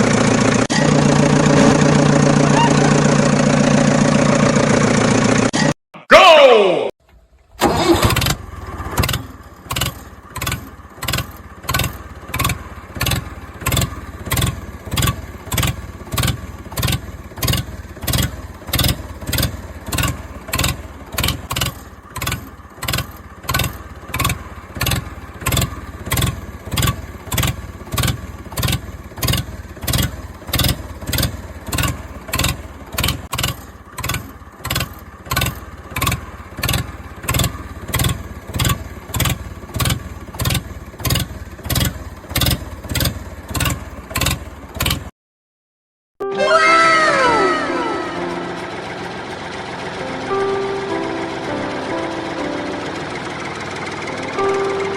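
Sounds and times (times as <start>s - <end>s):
engine pulsing drone: 0.0s - 5.6s, 7.3s - 45.0s, 47.1s - 54.9s.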